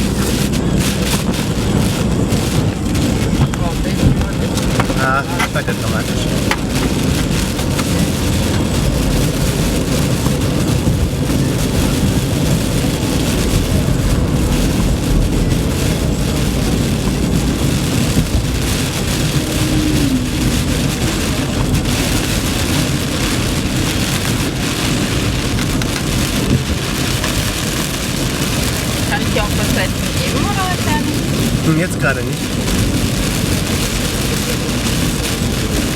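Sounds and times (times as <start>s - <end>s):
heavy rain on a car: 0.0s - 35.9s
road and tyre noise: 0.0s - 35.9s.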